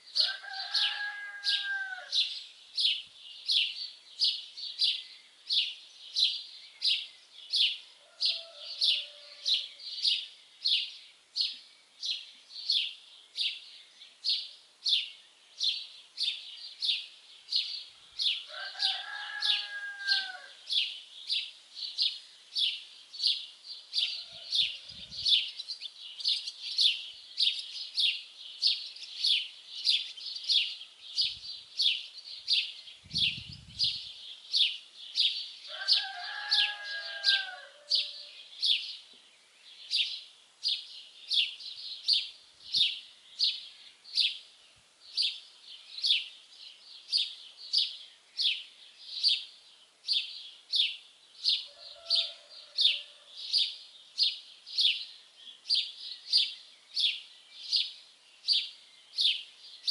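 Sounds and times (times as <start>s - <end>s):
songbird high chirp: 0.0s - 59.9s.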